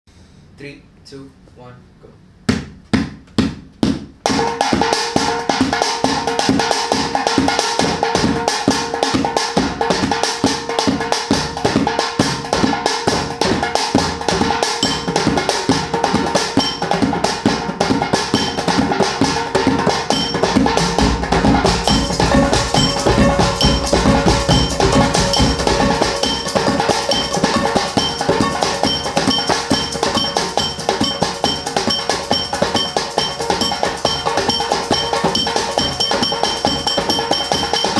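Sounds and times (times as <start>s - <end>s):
pitched backing: 0.5s - 37.9s
hand percussion on kitchen utensils: 4.3s - 37.9s.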